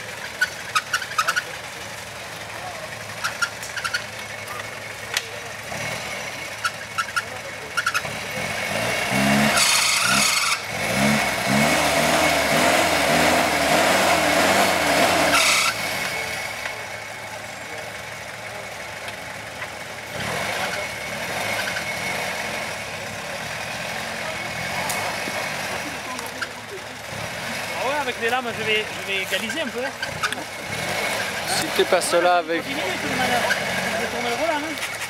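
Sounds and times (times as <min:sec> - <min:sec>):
truck engine revving under load: 0:00.0 - 0:35.0.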